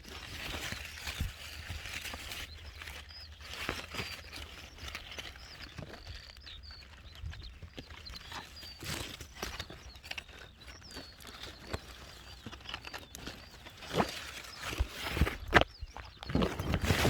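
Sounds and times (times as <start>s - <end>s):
rustling and crackling: 0.0s - 17.0s
small birds chirping: 0.0s - 17.0s.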